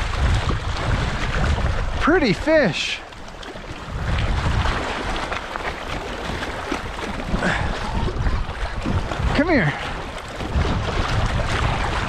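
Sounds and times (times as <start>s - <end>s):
small waves lapping on rocks: 0.0s - 12.0s
wind rumbling on microphone: 0.0s - 12.0s.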